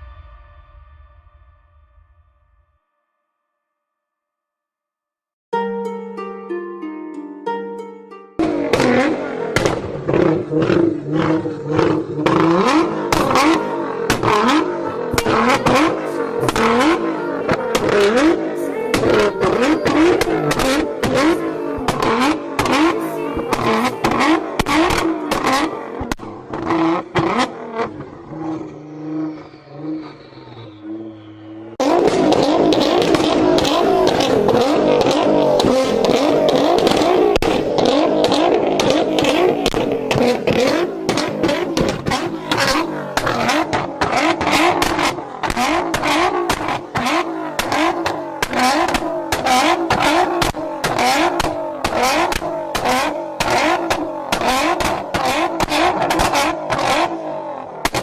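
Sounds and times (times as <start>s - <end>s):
sports car engine revving: 8.4s - 58.0s.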